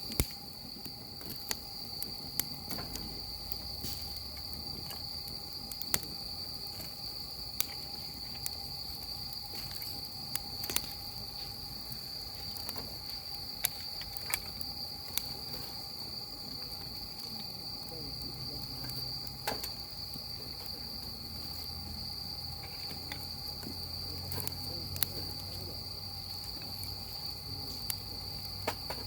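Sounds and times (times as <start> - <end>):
crickets chirring: 0.0 - 29.0
wood fire popping: 0.0 - 29.0.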